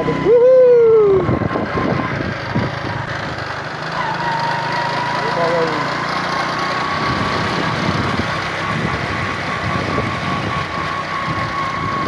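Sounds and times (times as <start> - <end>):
constant high whine: 0.0 - 12.0
road rumble: 0.0 - 12.0
vehicle engine running: 0.0 - 12.0.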